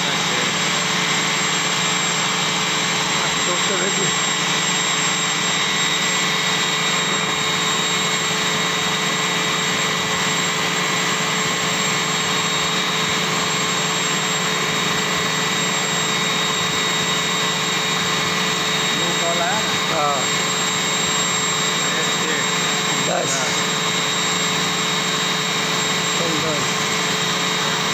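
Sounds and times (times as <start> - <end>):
machine drone with whining tones: 0.0 - 27.9.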